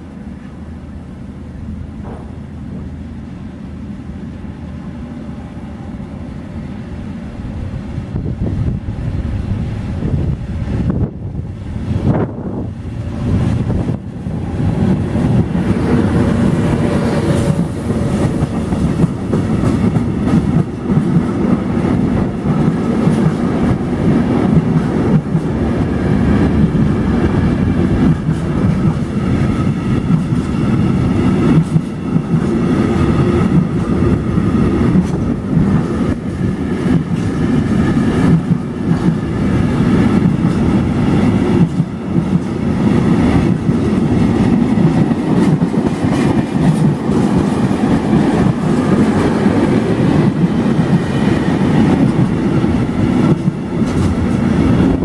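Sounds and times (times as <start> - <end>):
train wheels rumbling on rail: 0.0 - 55.0
clickety-clack over rail joints: 2.0 - 3.0, 12.0 - 55.0.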